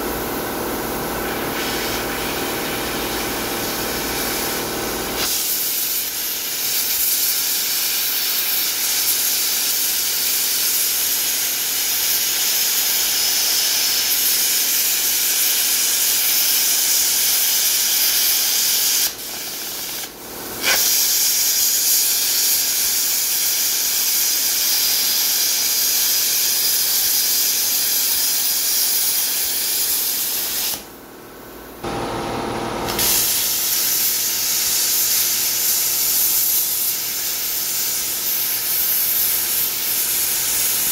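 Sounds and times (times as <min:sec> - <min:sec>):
plasma cutter hissing: 0:01.2 - 0:30.9, 0:32.8 - 0:40.9.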